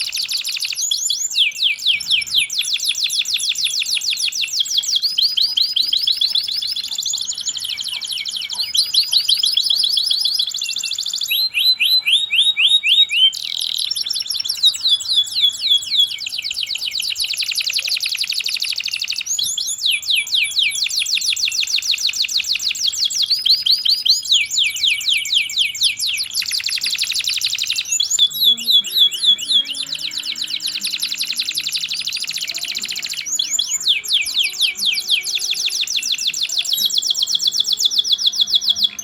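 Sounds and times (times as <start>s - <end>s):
canary singing in trills: 0.0s - 39.0s.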